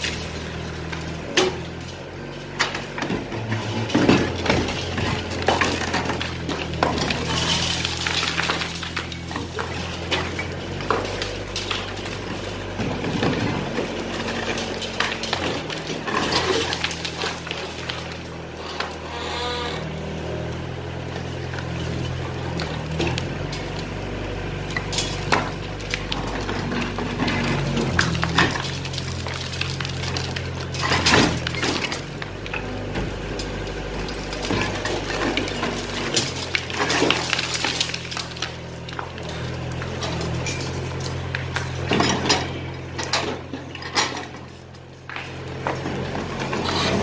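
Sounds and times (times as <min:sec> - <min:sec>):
concrete and brick breaking: 0:00.0 - 0:19.1, 0:21.0 - 0:47.0
excavator diesel engine: 0:00.0 - 0:47.0.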